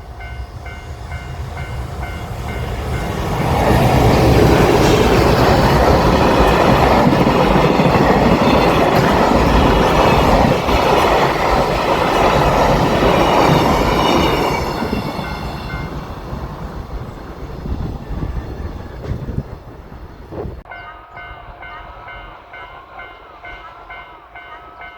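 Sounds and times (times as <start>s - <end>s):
freight train wagons clattering: 1.1s - 22.2s.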